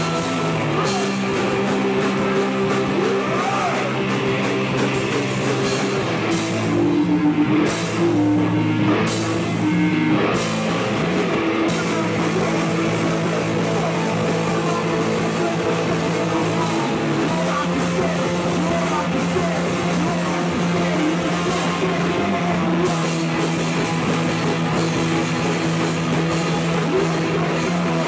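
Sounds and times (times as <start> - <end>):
distorted electric guitar riff: 0.0 - 28.0
drum kit playing: 0.0 - 28.0.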